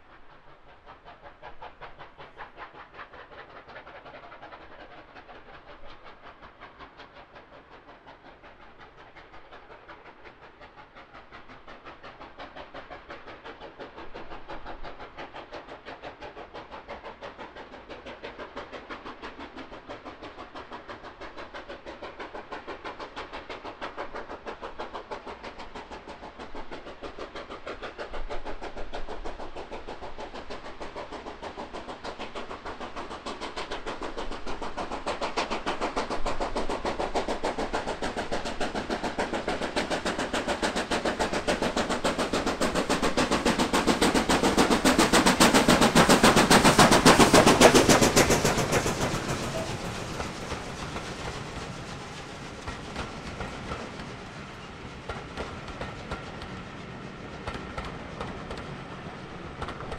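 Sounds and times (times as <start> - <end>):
steam locomotive exhaust beats: 0.0 - 59.9.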